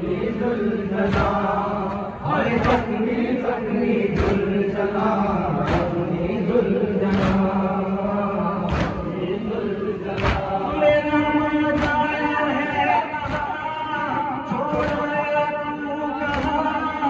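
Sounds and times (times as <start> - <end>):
men chanting in unison: 0.0 - 17.0
rhythmic sharp slaps: 0.2 - 17.0.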